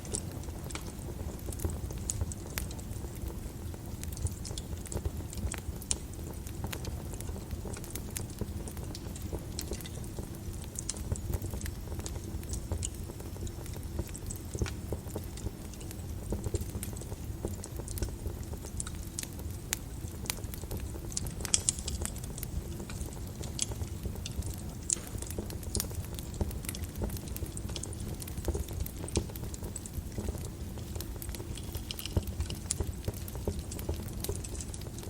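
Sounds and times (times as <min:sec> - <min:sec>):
low rumble of flames: 0:00.0 - 0:35.0
wood fire crackling: 0:00.0 - 0:35.0.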